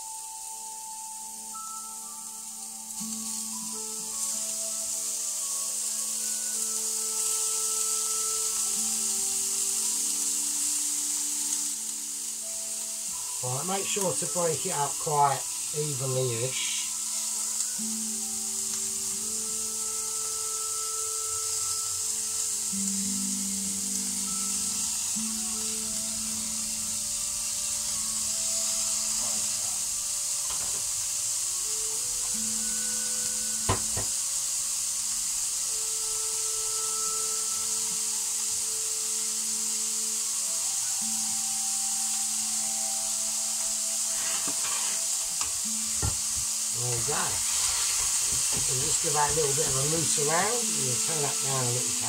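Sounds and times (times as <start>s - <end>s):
meat sizzling in a frying pan: 0.0s - 52.0s.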